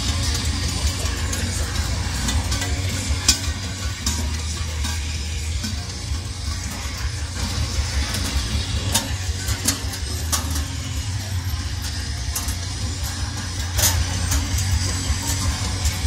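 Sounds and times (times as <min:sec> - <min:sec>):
engine running with low rumble: 0:00.0 - 0:16.0.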